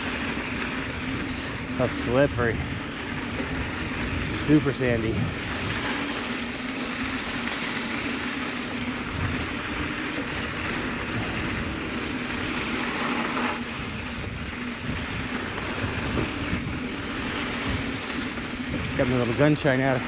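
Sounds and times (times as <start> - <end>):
bike tyres rolling on dirt: 0.0 - 20.0
wind noise: 0.0 - 20.0.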